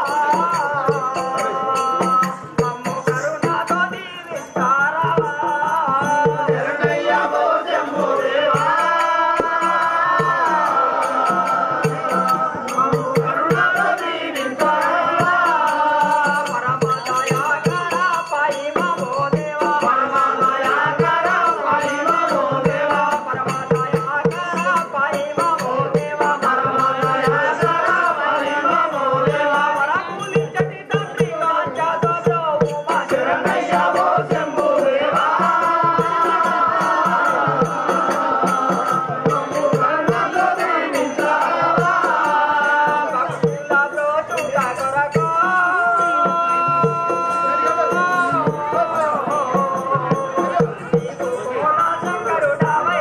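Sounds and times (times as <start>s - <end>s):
chant-like melody: 0.0s - 53.0s
rattling percussion beat: 0.0s - 53.0s.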